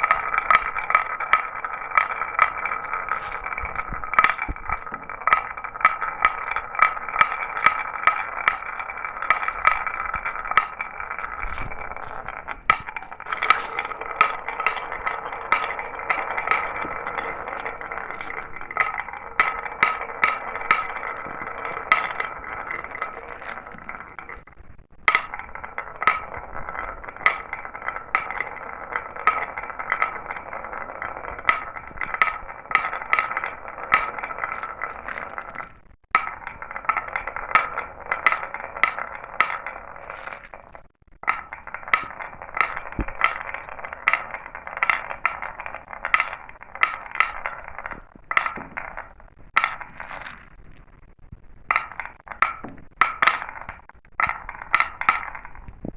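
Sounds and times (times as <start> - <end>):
marbles clinking: 0.0 - 55.9
marbles rolling down a track: 0.0 - 55.9.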